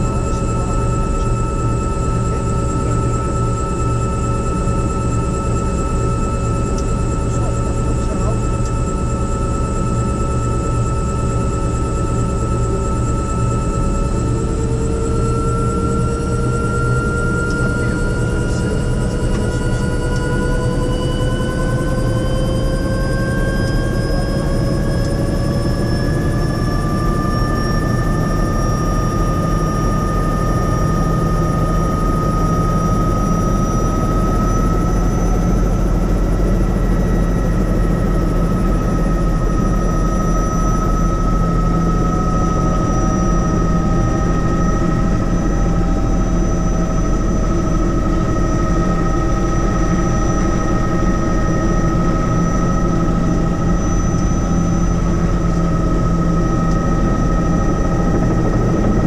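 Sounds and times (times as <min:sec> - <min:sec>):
helicopter flying: 0:00.0 - 0:59.0.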